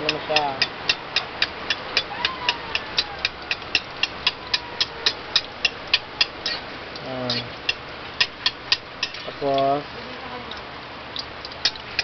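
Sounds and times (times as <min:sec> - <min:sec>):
sharp regular ticking: 0:00.0 - 0:09.7.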